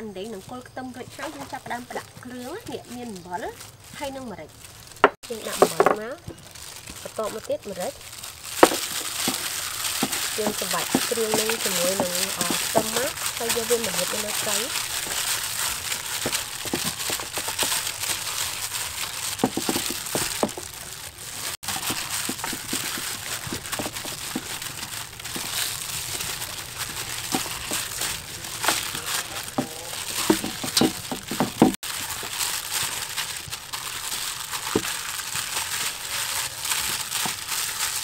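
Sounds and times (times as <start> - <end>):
plastic glove crinkling: 0.0 - 38.0.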